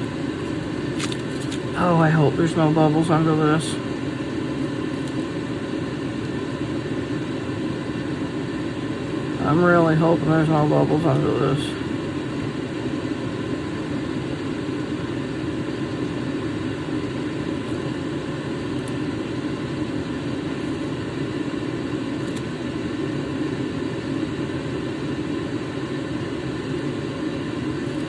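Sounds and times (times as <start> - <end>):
faint hum: 0.0 - 28.0
steady mechanical drone: 0.0 - 28.0.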